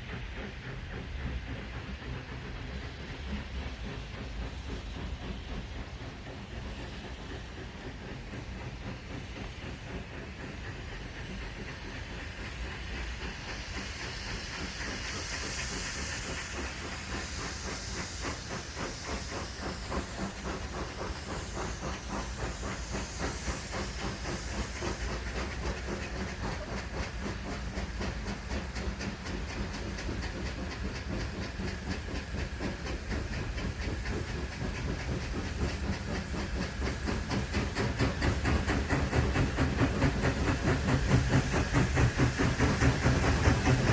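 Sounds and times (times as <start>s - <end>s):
steam locomotive hissing and chuffing: 0.0s - 43.9s.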